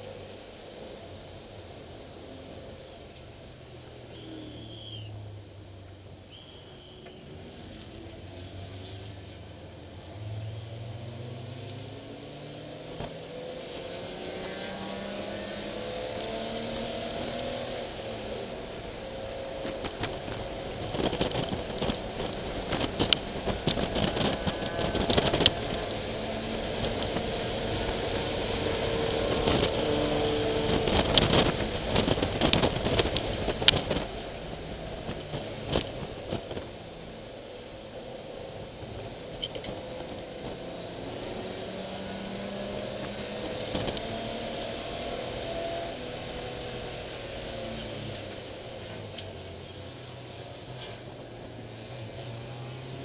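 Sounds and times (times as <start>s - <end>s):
car engine revving through gears: 10.0s - 53.0s.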